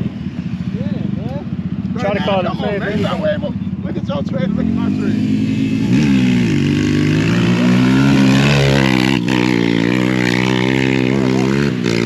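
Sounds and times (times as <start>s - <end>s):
off-road vehicle engine revving: 0.8s - 12.0s.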